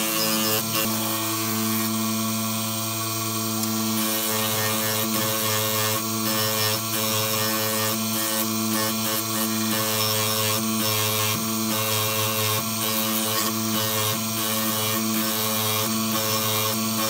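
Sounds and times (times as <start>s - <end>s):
steel blade grinding rasp: 0.0s - 2.2s, 3.6s - 17.0s
grinding disc whine: 0.0s - 17.0s.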